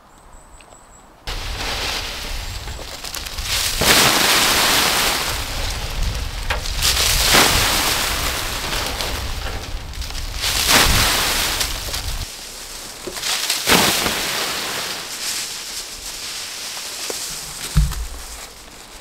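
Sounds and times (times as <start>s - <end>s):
dry leaves rustling onto tarp: 1.3s - 19.0s.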